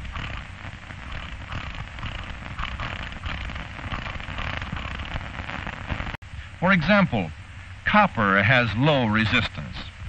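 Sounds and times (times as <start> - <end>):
crackling film soundtrack hiss: 0.0 - 10.0.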